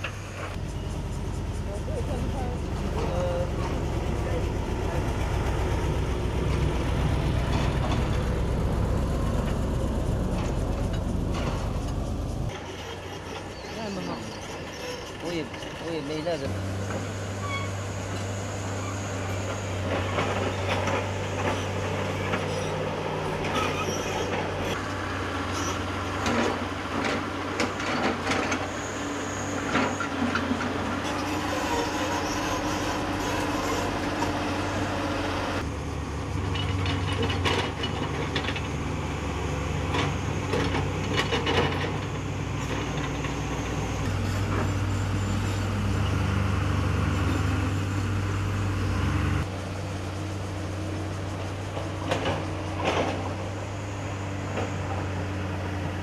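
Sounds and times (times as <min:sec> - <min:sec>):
diesel machinery engine drone: 0:00.0 - 0:56.0.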